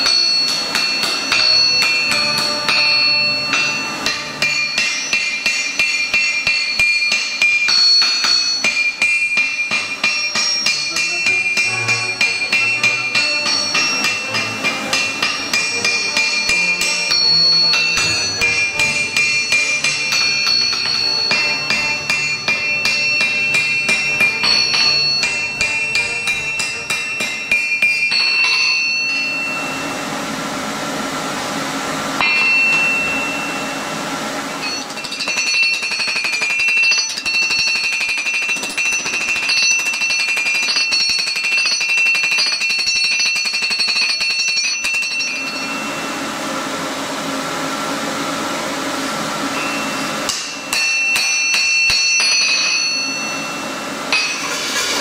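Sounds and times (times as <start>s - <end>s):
hammer striking on anvil: 0.0s - 30.6s, 32.2s - 46.9s, 48.5s - 55.0s
anvil ringing: 0.0s - 30.7s, 32.2s - 47.3s, 48.5s - 55.0s.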